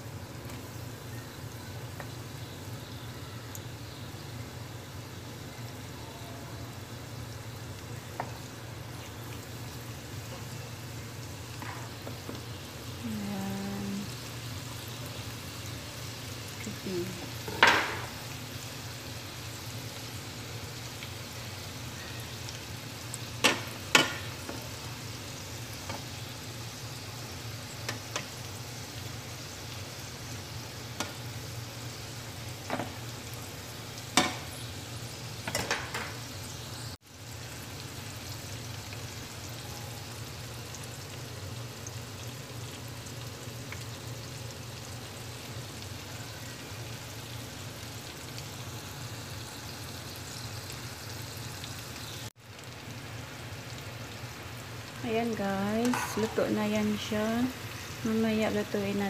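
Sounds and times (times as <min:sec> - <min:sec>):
chicken deep-frying in oil: 0:00.0 - 0:59.0.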